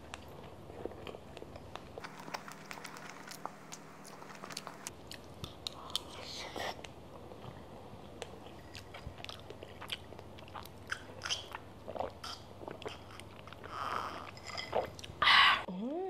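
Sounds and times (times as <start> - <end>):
soft chewing with mouth clicks: 0.0 - 15.2.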